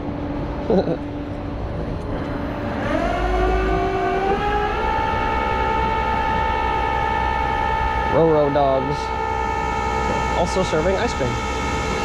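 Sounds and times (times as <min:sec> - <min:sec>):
low engine rumble: 0:00.0 - 0:12.0
hydraulic winch whining: 0:02.1 - 0:12.0.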